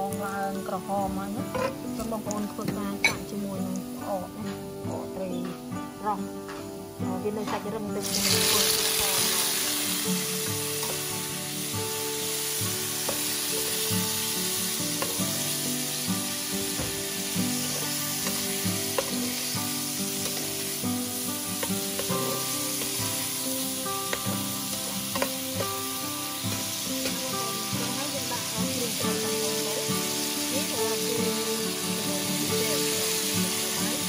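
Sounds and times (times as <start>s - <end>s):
fish and garlic sizzling in oil: 0.0s - 34.0s.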